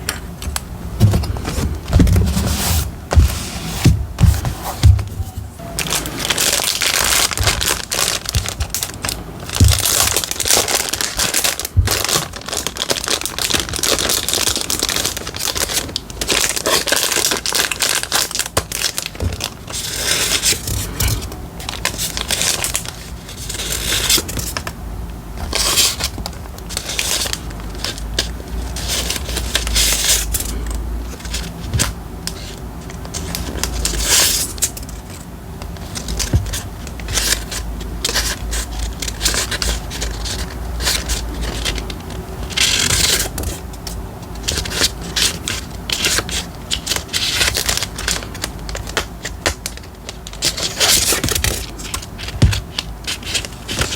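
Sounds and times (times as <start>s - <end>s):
paper and plastic crinkling: 0.0s - 24.8s, 25.4s - 53.9s.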